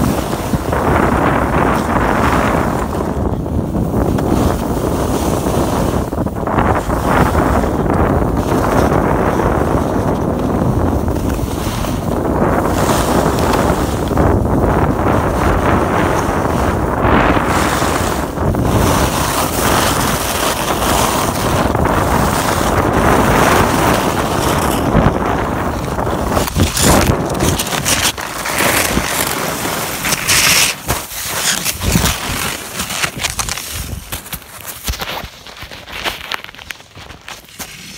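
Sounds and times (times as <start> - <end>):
skis scraping on snow: 0.0 - 37.9
wind rushing over microphone: 0.0 - 37.9
skier falling into snow: 4.0 - 37.9.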